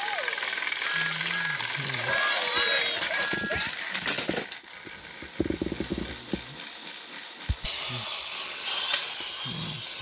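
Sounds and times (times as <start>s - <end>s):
toy train motor rattling: 0.0s - 10.0s.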